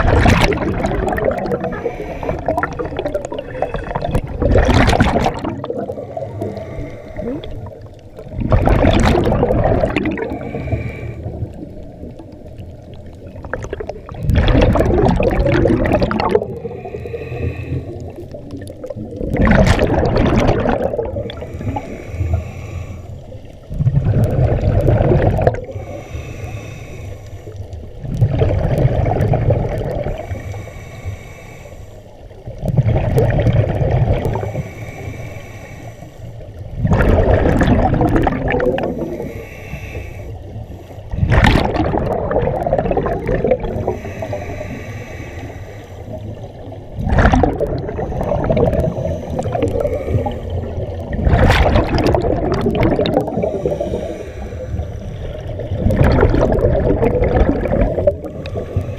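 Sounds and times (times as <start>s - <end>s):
exhaled bubbles gurgling underwater: 0.0s - 58.9s.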